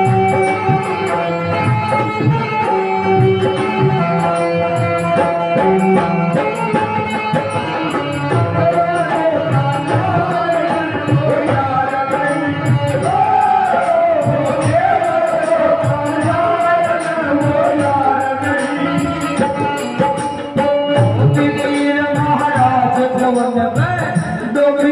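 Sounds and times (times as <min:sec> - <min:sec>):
hand drum rhythm: 0:00.0 - 0:24.9.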